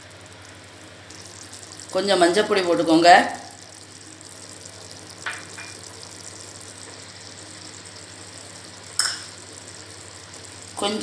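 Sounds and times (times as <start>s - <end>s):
faint hum: 0.0s - 11.0s
food cooking hiss: 0.0s - 11.0s.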